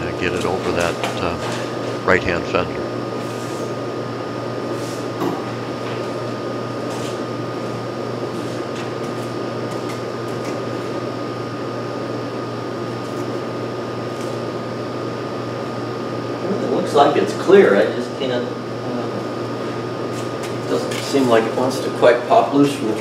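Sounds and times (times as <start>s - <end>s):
fan hum with high whine: 0.0s - 23.0s.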